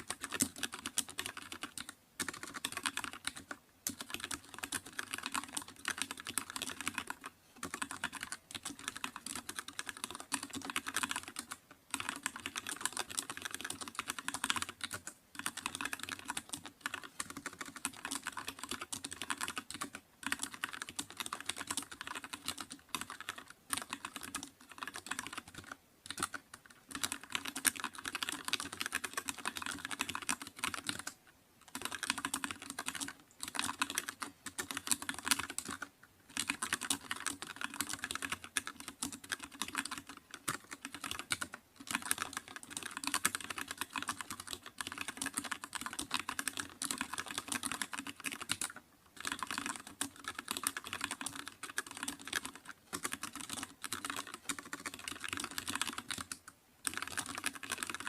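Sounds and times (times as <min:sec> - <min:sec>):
typing on computer keyboard: 0:00.0 - 0:58.0.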